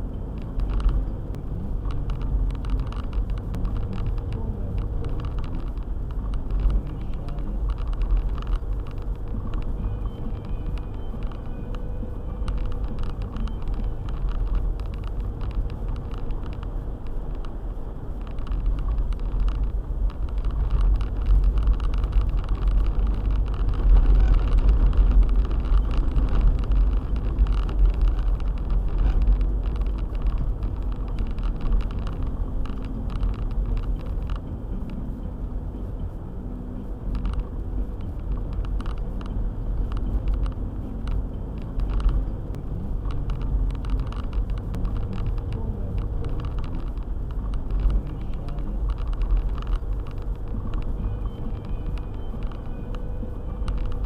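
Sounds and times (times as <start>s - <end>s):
car driving on snowy road: 0.0s - 54.0s
small ticks and knocks: 0.3s - 1.1s, 1.8s - 11.8s, 12.4s - 17.6s, 18.2s - 35.0s, 37.1s - 54.0s.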